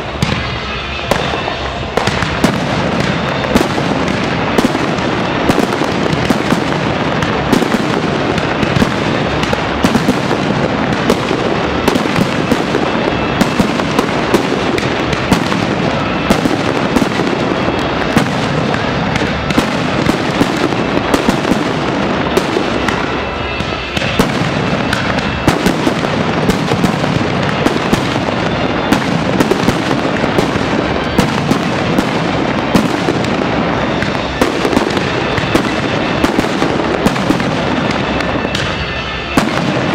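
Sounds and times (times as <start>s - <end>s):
firework crackling: 0.0s - 39.9s.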